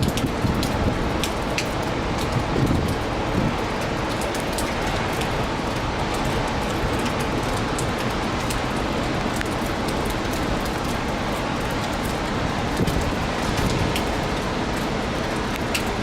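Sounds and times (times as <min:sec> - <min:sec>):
strong wind: 0:00.0 - 0:16.0
wind rumble on microphone: 0:00.0 - 0:16.0.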